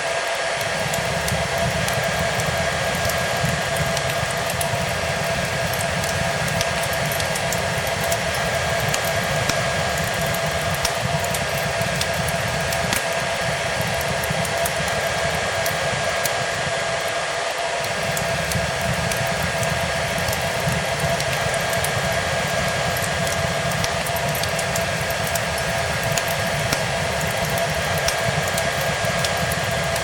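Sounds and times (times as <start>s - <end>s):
fireplace crackling: 0.0s - 30.0s
hair dryer running: 0.0s - 30.0s.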